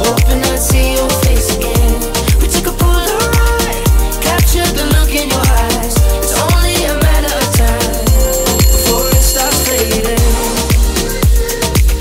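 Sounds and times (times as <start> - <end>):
background music with kick drum: 0.0 - 12.0.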